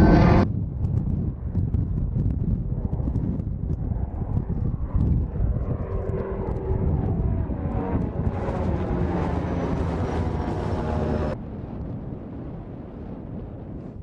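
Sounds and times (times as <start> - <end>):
propeller drone engine droning: 0.0 - 12.8.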